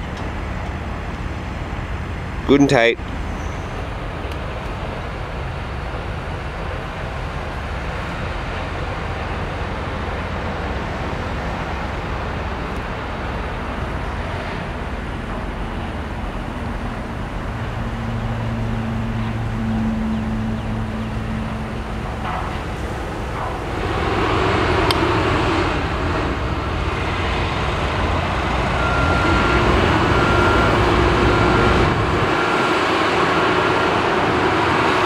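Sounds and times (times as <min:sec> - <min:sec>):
low steady engine hum: 0:00.0 - 0:35.0.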